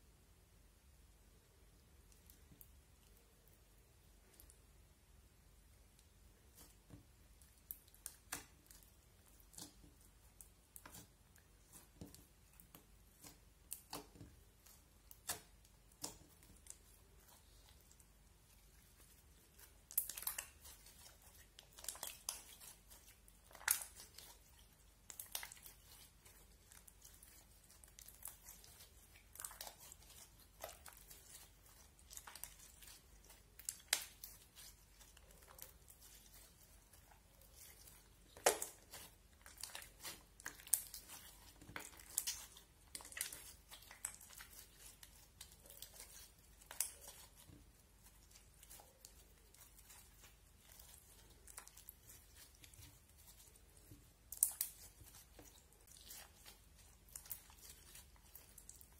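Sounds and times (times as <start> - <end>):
slime crackling and popping: 7.6 - 58.9.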